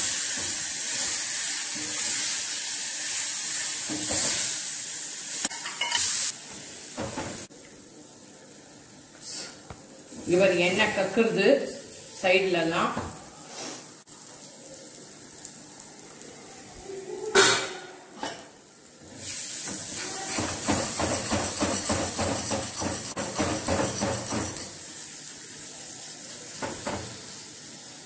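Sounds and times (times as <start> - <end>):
frying hiss: 0.0 - 28.0.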